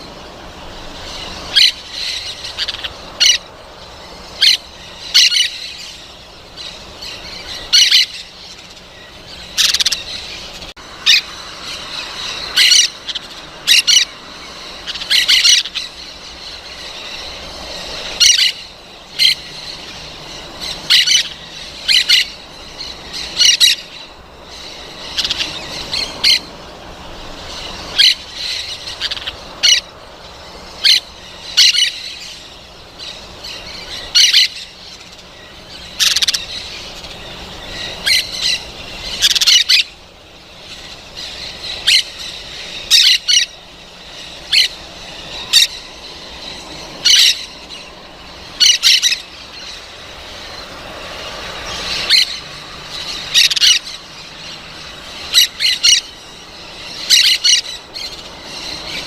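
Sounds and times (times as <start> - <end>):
parrot squawking: 1.0 - 3.6, 4.3 - 17.3, 18.0 - 24.0, 24.6 - 26.5, 27.5 - 32.5, 33.1 - 35.0, 35.6 - 40.0, 40.6 - 47.9, 48.5 - 50.6, 51.6 - 59.0.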